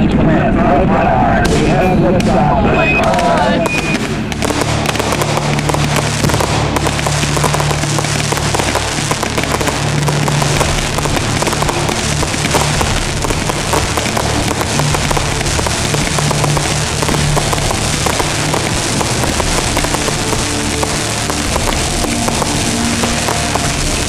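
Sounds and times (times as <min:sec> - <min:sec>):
low music: 0:00.0 - 0:24.0
fireworks crackling: 0:01.5 - 0:24.0.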